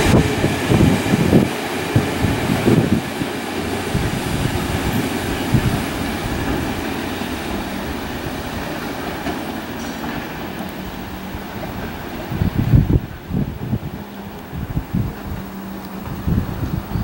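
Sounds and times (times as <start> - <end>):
train rumble: 0.0 - 17.0
train wheels clacking over rail joints: 0.0 - 17.0.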